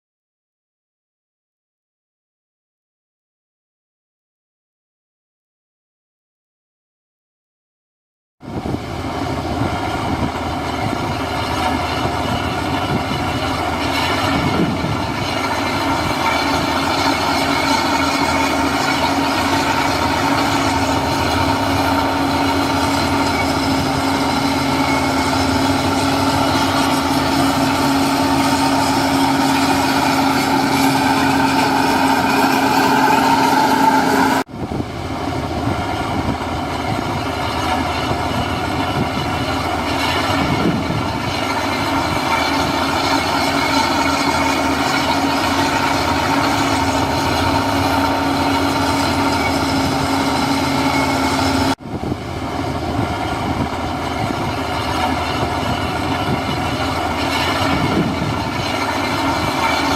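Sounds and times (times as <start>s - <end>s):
diesel machinery clattering: 8.4s - 59.9s.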